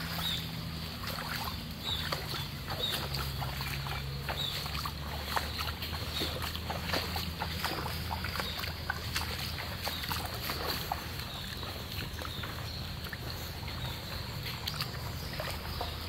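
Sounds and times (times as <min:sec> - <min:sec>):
raindrops plinking into water: 0:00.0 - 0:16.0
steady low rumble: 0:00.0 - 0:16.0.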